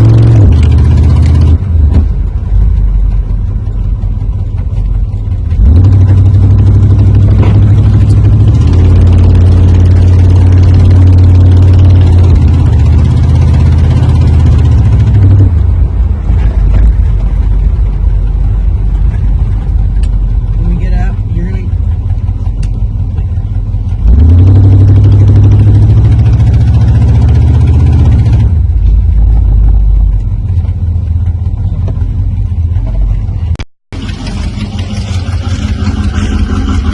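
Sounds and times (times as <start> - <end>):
car engine revving and idling: 0.0 - 36.9.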